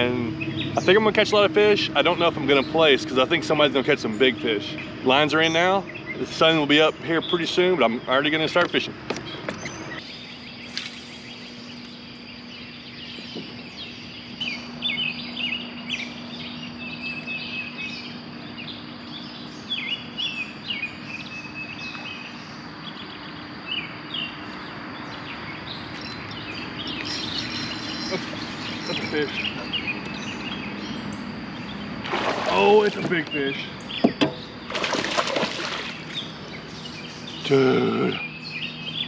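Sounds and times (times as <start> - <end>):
songbirds chirping and whistling: 0.0 - 39.0
steady low hum: 0.0 - 39.0.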